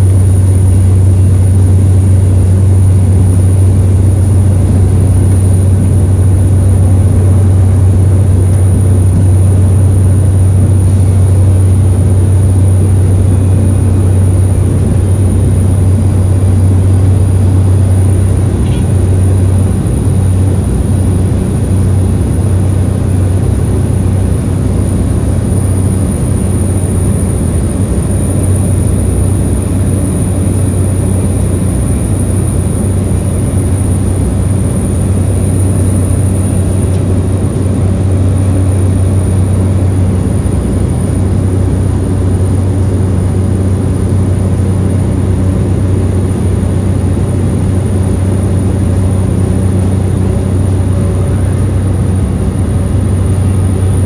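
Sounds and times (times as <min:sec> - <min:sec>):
propeller aircraft engine drone: 0:00.0 - 0:54.0
thin high whine: 0:00.0 - 0:54.0.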